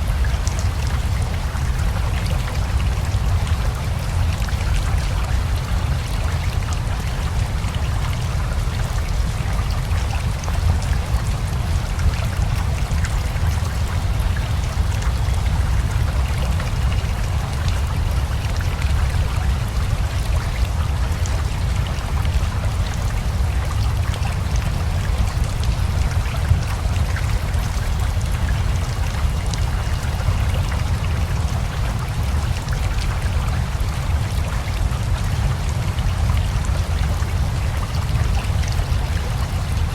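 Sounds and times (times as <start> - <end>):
flowing river: 0.0 - 39.9
steady rain: 0.0 - 39.9.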